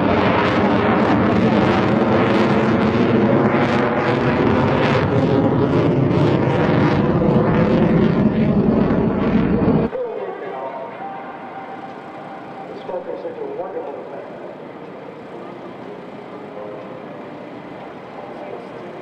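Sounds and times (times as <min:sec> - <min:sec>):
jet engine roaring: 0:00.0 - 0:19.0.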